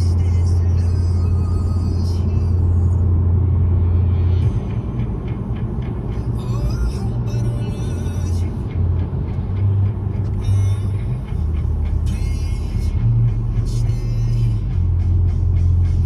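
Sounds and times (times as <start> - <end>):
background music: 0.0 - 16.0
car road rumble inside cabin: 0.0 - 16.0.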